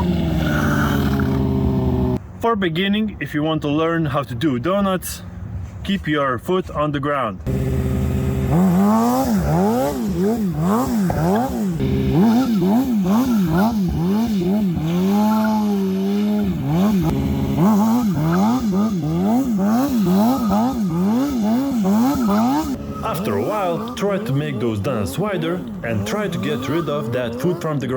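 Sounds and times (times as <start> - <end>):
motorcycle engine revving in pulses: 0.0 - 2.2, 7.5 - 27.9.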